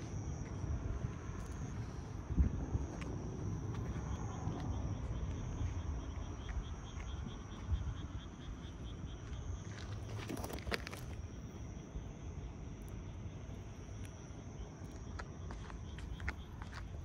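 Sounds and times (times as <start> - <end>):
constant low rumble: 0.0 - 17.0
night insects trilling: 0.0 - 17.0.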